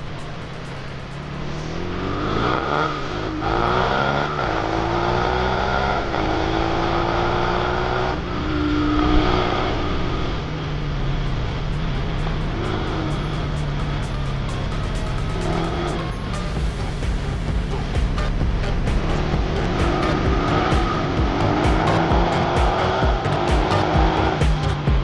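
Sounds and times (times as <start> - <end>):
motorbike engine accelerating: 0.0 - 25.0.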